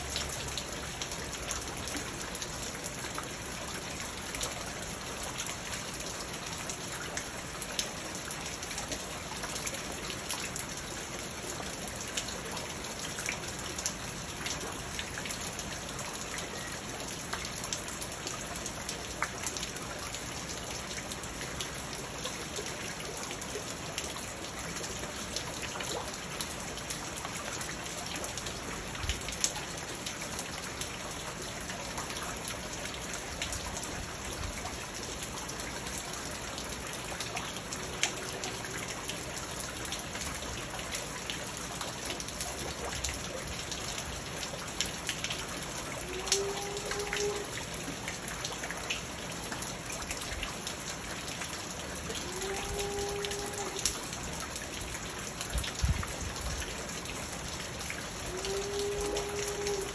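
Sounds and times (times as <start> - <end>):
rain falling into pond: 0.0 - 59.9.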